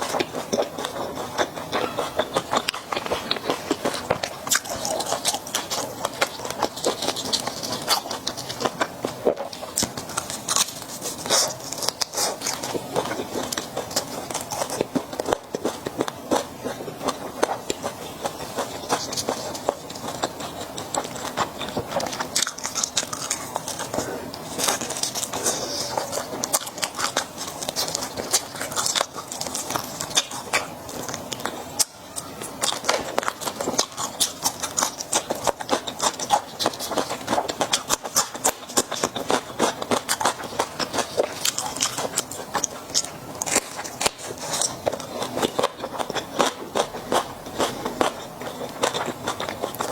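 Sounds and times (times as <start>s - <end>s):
chewing with wet mouth sounds: 0.0s - 49.9s.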